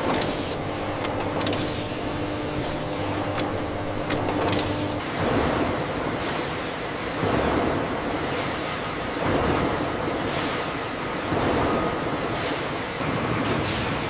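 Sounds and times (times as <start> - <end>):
factory machinery hum: 0.0 - 14.0.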